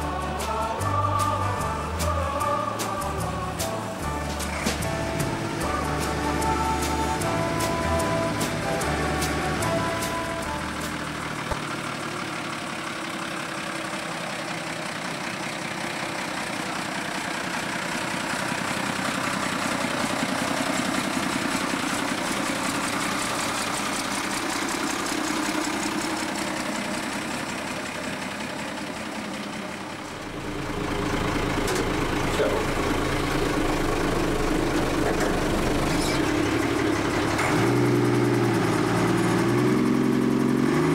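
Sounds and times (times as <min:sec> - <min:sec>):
truck engine driving by: 0:00.0 - 0:40.9.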